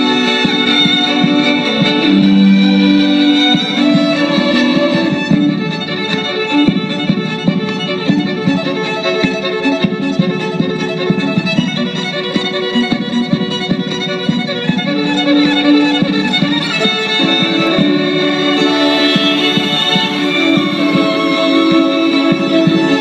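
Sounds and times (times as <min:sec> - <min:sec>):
instrumental music with sustained notes: 0:00.0 - 0:23.0.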